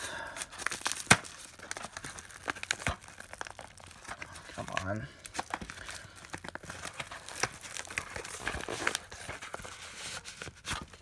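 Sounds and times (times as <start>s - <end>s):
padded mailer crinkling: 0.2s - 11.0s.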